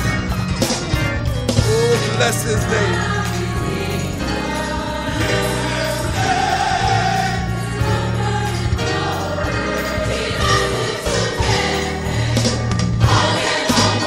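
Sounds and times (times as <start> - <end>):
steady bass accompaniment: 0.0 - 14.0
gospel choir singing: 1.6 - 14.0.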